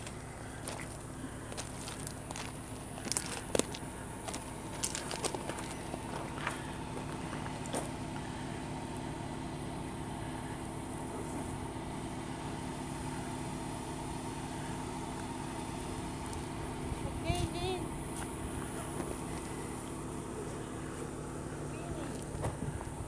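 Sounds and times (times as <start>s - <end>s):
motor idling hum: 0.0s - 23.0s.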